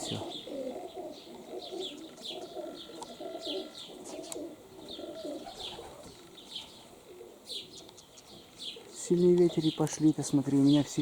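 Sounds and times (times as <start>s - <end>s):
pigeons cooing: 0.0s - 11.0s
small birds chirping: 0.0s - 11.0s.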